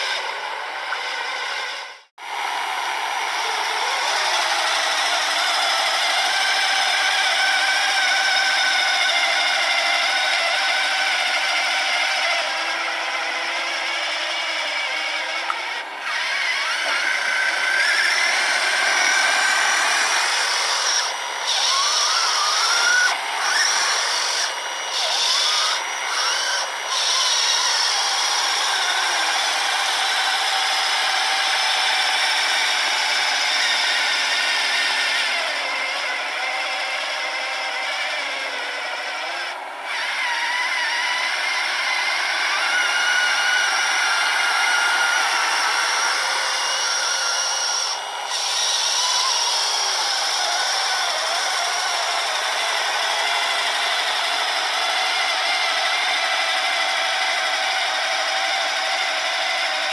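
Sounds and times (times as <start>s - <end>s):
small electric motors whirring: 0.0s - 59.9s.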